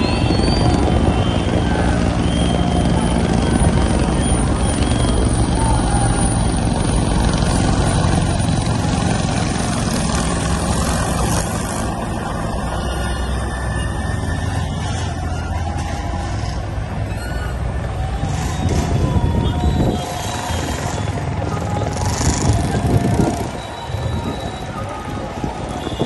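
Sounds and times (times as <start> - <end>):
helicopter flying overhead: 0.0 - 26.0.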